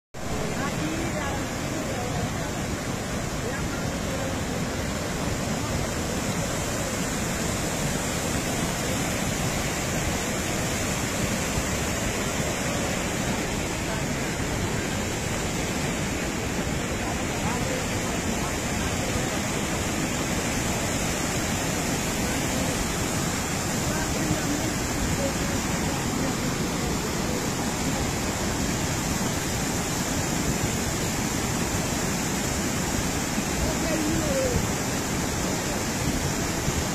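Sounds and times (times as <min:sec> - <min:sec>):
floodwater rushing: 0:00.2 - 0:36.9.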